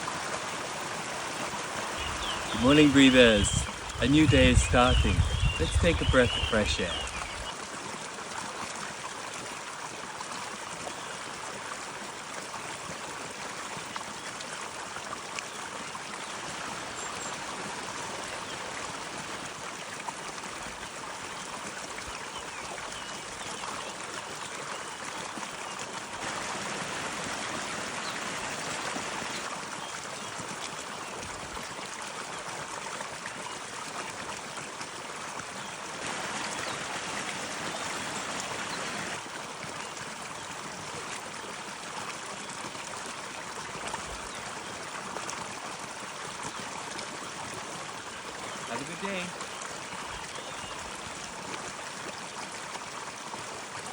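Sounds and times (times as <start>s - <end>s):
stream flowing over stones: 0.0s - 53.9s.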